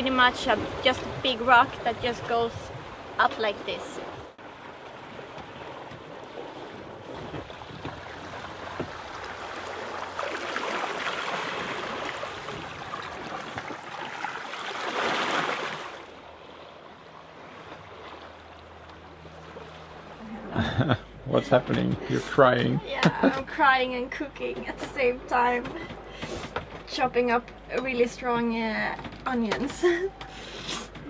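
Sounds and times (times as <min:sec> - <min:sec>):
sea water splashing along hull: 0:00.0 - 0:31.0.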